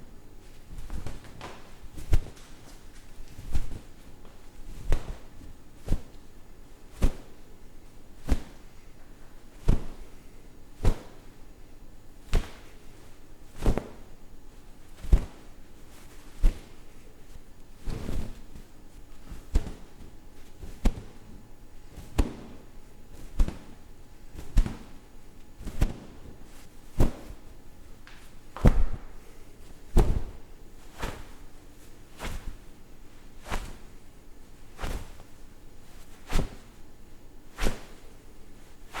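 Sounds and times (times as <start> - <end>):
cloth swishing through air: 0.4 - 11.4, 12.2 - 25.0, 25.6 - 39.0.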